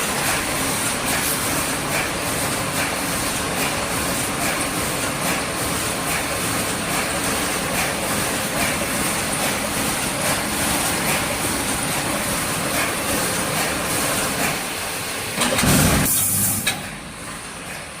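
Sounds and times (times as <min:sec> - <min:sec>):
welding machine clatter: 0:00.0 - 0:18.0.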